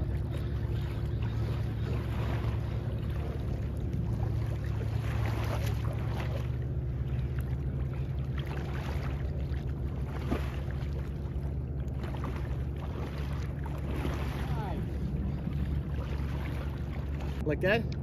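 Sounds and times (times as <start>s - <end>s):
low motor hum: 0.0s - 18.0s
water splashes: 0.0s - 18.0s.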